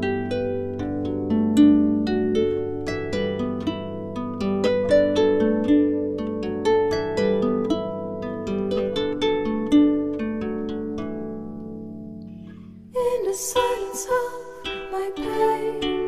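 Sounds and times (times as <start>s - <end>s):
plucked strings music: 0.0s - 16.0s.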